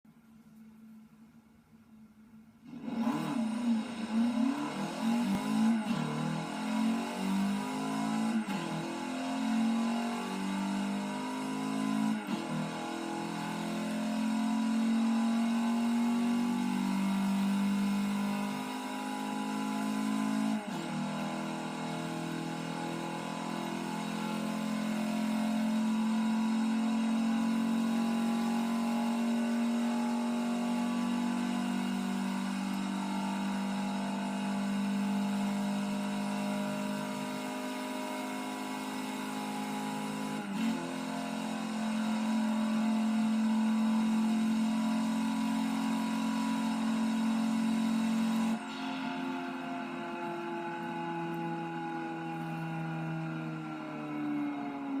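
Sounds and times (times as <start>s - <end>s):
car engine accelerating hard: 2.6s - 55.0s.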